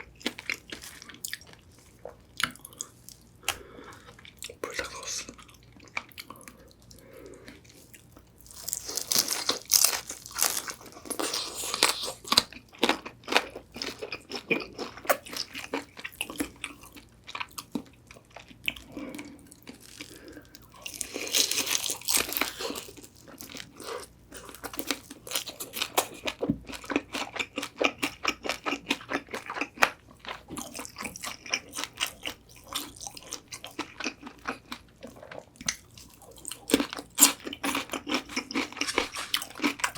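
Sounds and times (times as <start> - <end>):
crunching fried chicken: 0.0 - 6.6, 7.4 - 39.9
rhythmic chewing: 0.0 - 39.9.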